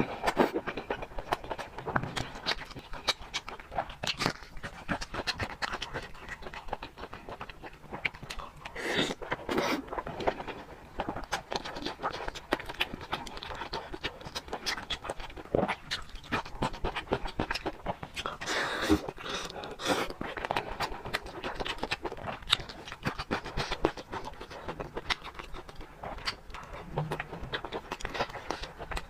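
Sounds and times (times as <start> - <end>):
wet chewing: 0.0 - 29.0.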